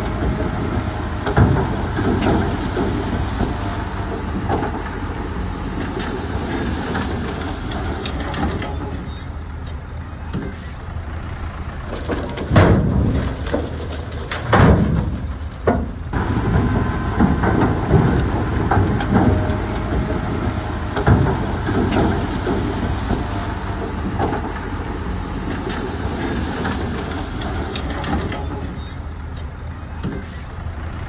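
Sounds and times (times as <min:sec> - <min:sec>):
diesel machinery rumbling: 0:00.0 - 0:31.0.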